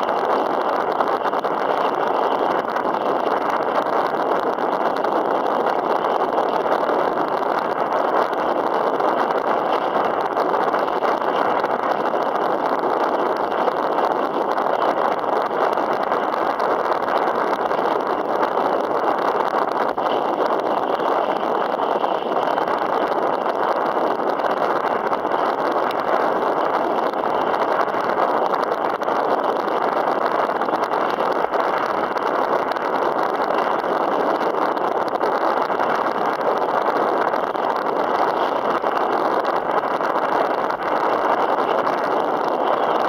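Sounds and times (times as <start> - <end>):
choppy water: 0.0 - 43.0
wind on microphone: 0.0 - 43.0.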